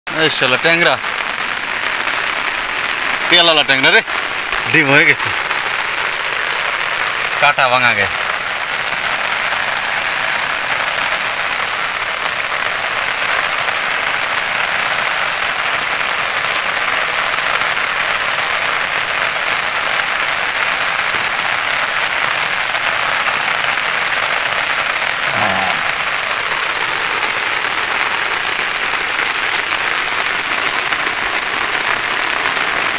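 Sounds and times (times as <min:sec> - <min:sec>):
rain falling on water: 0:00.1 - 0:32.9.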